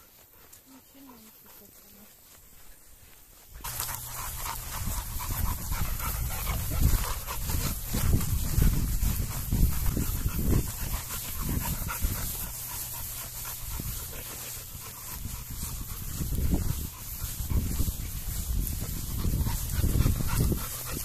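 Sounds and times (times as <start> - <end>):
dog panting: 0.0 - 2.9, 3.6 - 21.0
low uneven rumble: 3.6 - 21.0.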